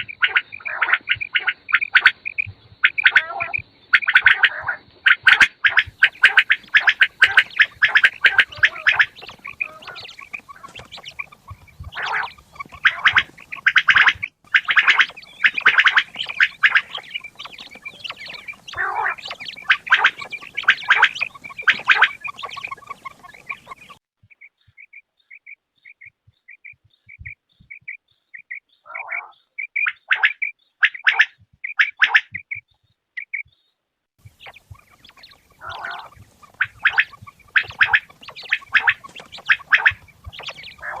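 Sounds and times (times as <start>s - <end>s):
quails calling: 0.0s - 41.0s.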